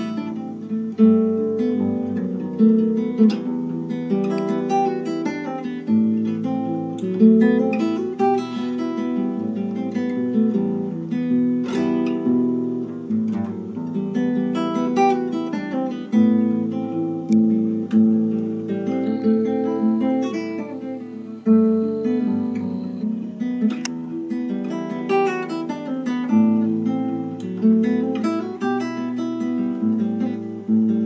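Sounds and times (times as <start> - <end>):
fingerstyle classical guitar: 0.0 - 31.0.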